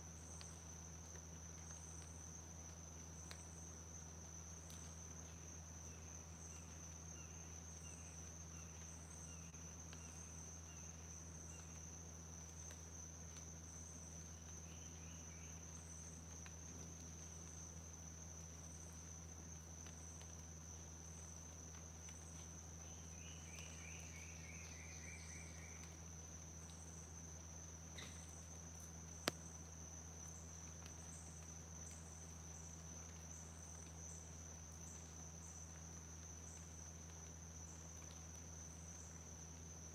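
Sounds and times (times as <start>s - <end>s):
insect chirps pulsing: 0.0s - 39.9s
insect trill: 0.0s - 39.9s.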